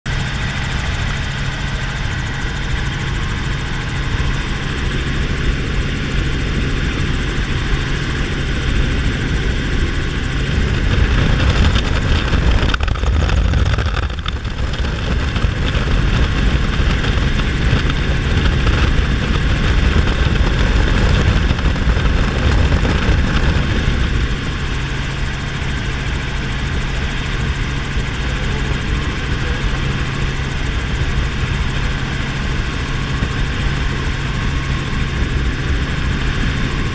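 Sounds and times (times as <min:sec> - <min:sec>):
helicopter engine and rotor drone: 0:00.1 - 0:36.9
wind noise: 0:00.4 - 0:36.9.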